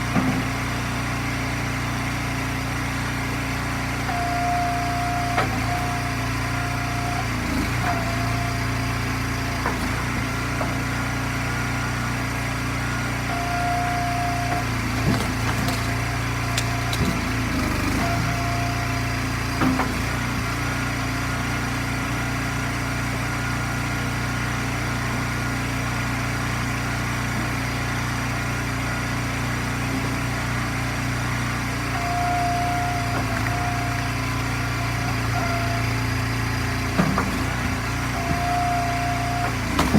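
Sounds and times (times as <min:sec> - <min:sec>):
gas engine running: 0:00.0 - 0:39.9
hydraulic splitter whine: 0:00.0 - 0:39.9.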